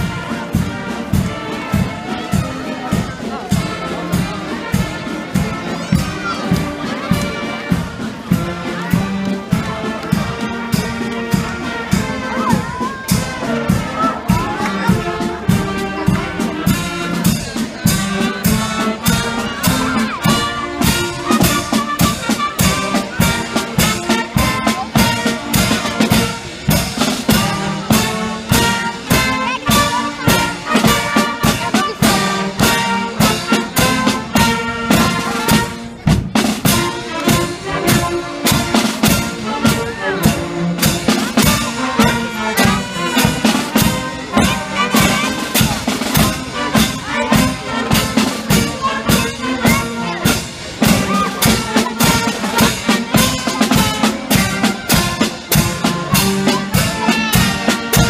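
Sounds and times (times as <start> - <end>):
marching band playing: 0.0 - 58.0.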